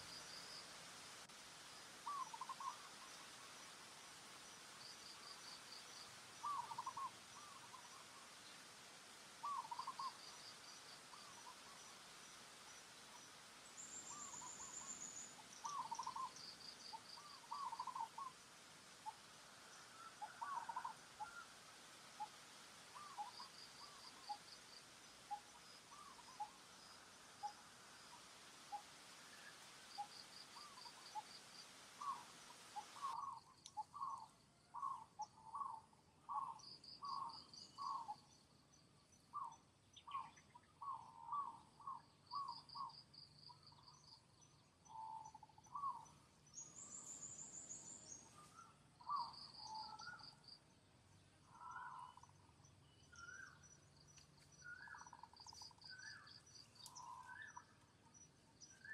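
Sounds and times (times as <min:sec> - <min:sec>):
background hiss: 0:00.0 - 0:58.9.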